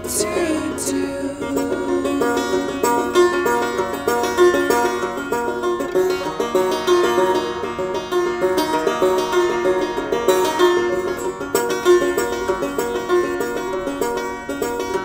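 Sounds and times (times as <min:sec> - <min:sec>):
banjo fingerpicking: 0:00.0 - 0:15.0.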